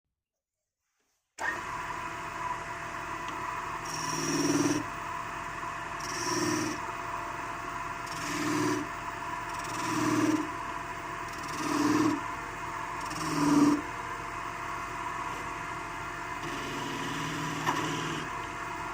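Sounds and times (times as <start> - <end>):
wood lathe running: 1.4 - 18.9
tool rubbing spinning wood: 2.8 - 18.9.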